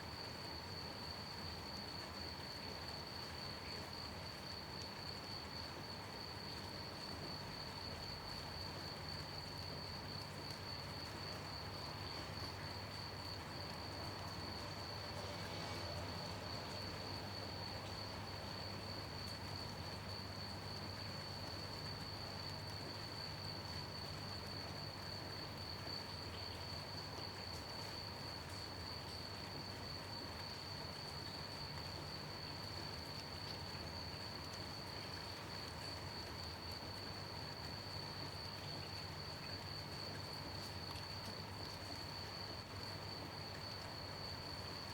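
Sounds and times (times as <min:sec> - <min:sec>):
crickets chirping: 0:00.0 - 0:44.9
rain hiss: 0:00.0 - 0:44.9.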